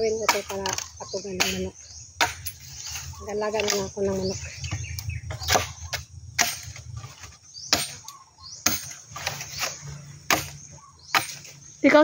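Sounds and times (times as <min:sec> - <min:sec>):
machete chopping bamboo: 0:00.2 - 0:03.9, 0:05.3 - 0:11.6.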